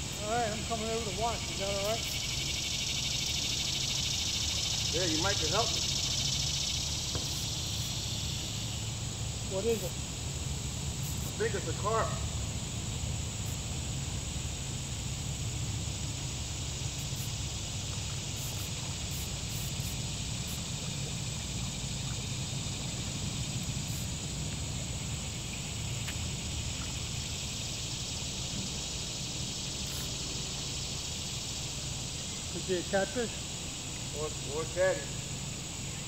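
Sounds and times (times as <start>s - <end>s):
high hiss: 0.0s - 36.0s.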